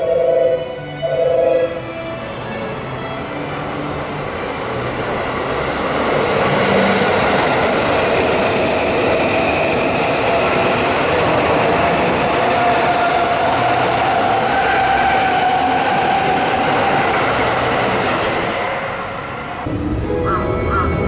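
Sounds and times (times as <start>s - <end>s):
electric train running on track: 0.0s - 21.0s.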